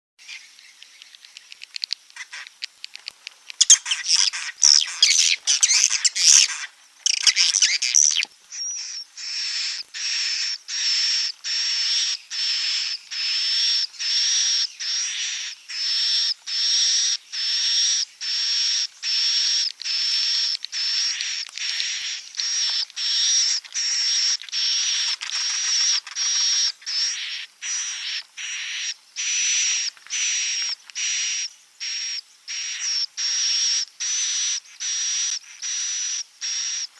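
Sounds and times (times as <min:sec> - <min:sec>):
bird chirping twitter: 0:00.2 - 0:36.9
buzzy high bird call: 0:03.6 - 0:36.9.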